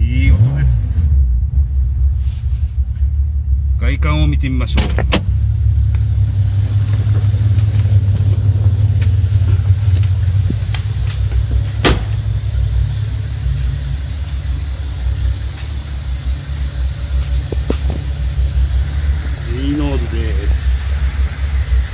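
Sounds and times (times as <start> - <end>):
car engine idling: 0.0 - 21.9.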